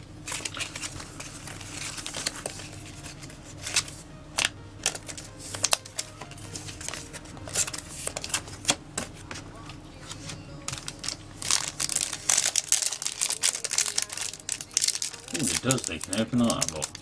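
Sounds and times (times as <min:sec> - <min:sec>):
desk fan humming: 0:00.0 - 0:17.0
foil wrapper crinkling: 0:00.0 - 0:17.0
trading cards being handled: 0:00.2 - 0:17.0
pack tearing snaps and clicks: 0:00.3 - 0:08.8, 0:10.7 - 0:17.0.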